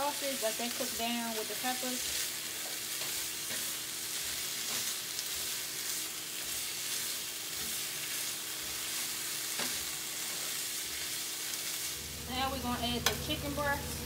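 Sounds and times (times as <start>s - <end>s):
sausage and peppers sizzling in pan: 0.0s - 14.0s.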